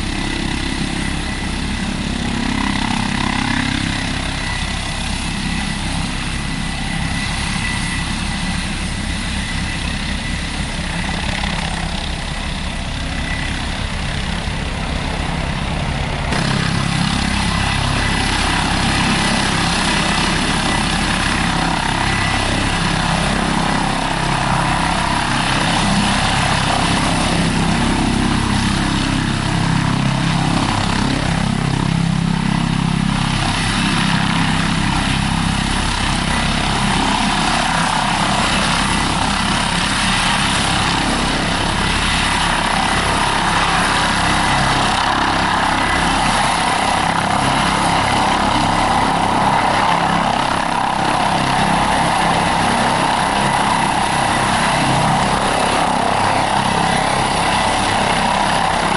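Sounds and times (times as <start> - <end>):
helicopter hovering: 0.0 - 58.9
thin high turbine whine: 0.0 - 58.9.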